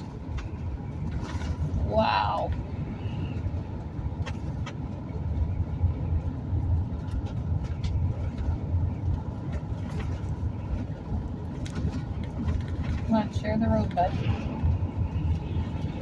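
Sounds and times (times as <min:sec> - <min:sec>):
road and engine drone inside vehicle: 0:00.0 - 0:16.0
light clicks and rattles: 0:02.5 - 0:16.0.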